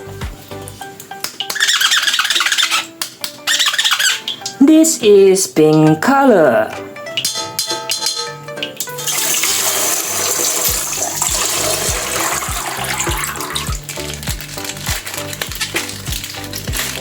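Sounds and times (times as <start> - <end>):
background music with steady beat: 0.0 - 1.7, 2.5 - 17.0.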